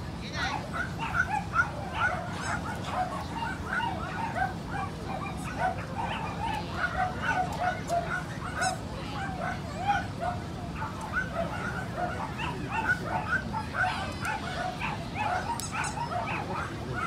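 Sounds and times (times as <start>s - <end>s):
dogs yipping and barking: 0.4s - 17.0s.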